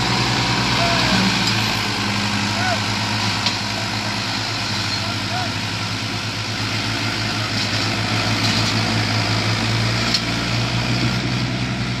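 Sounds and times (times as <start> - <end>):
tractor engine labouring: 0.0 - 12.0.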